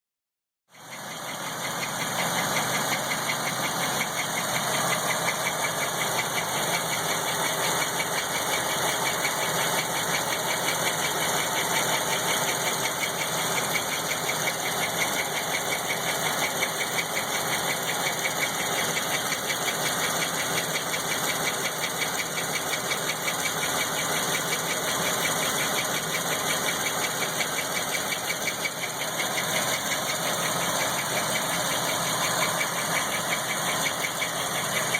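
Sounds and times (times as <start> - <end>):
car engine idling: 0.7 - 34.9
fast engine ticking: 0.7 - 34.9.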